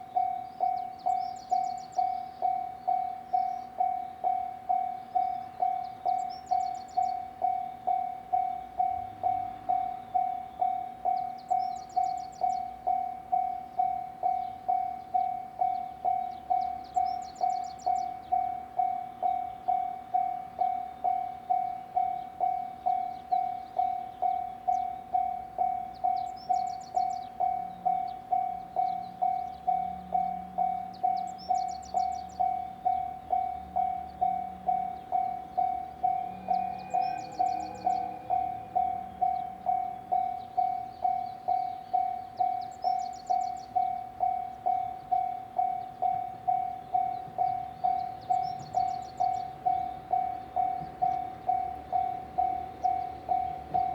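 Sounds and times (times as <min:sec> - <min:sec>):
level-crossing alarm bell: 0:00.0 - 0:53.9.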